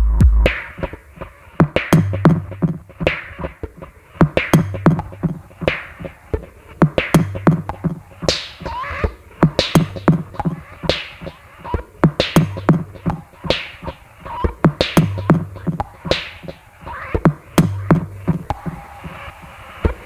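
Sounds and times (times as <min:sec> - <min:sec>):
experimental electronic music: 0:00.0 - 0:20.0.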